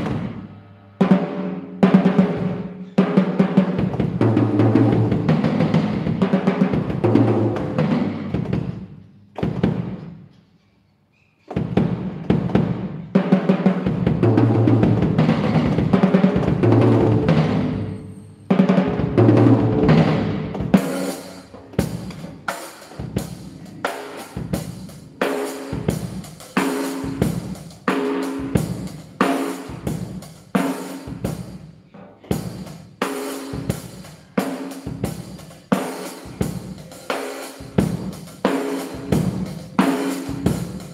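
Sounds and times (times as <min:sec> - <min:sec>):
tom drum rolls and strokes: 0:00.0 - 0:10.4, 0:11.5 - 0:40.9.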